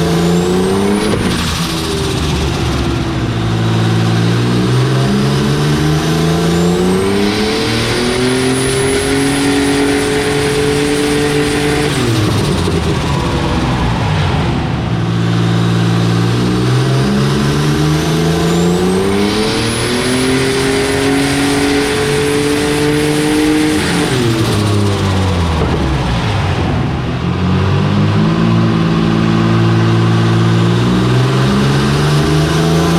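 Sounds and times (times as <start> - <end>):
car engine revving: 0.0 - 32.9
high turbo whine: 0.0 - 32.9.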